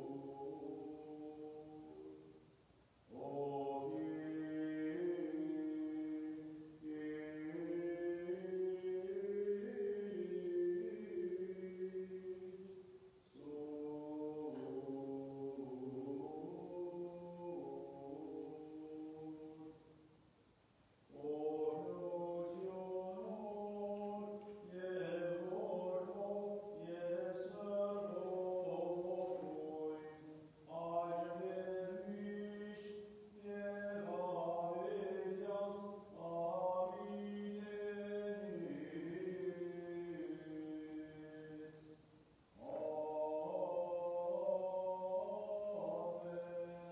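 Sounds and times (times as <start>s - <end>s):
slow sung chant melody: 0.0s - 46.9s.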